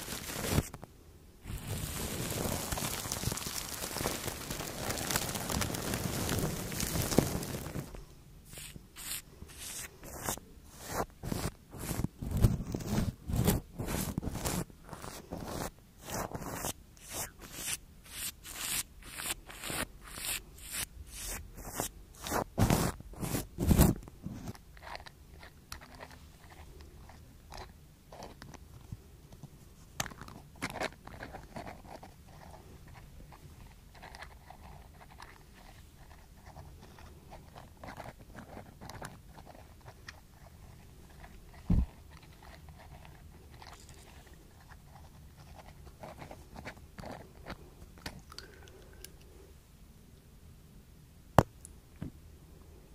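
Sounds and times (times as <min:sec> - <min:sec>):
brushes stroking plastic wrap: 0:00.0 - 0:00.8, 0:01.4 - 0:28.4, 0:30.6 - 0:47.5.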